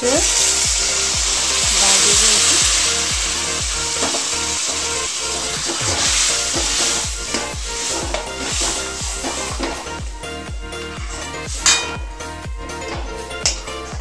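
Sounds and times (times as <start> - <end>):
food sizzling in a pan: 0.0 - 12.1
steel spoon stirring: 0.2 - 10.0, 10.8 - 13.9.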